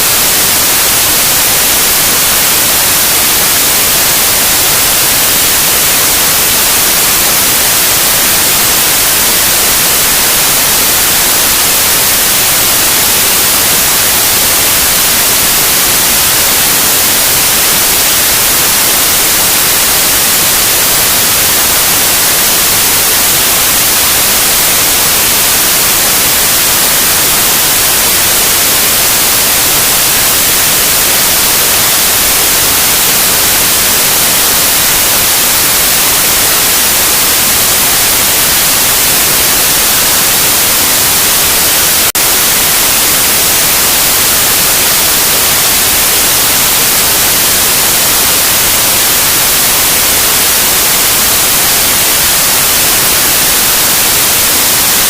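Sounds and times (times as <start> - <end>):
loud white noise: 0.0 - 55.0.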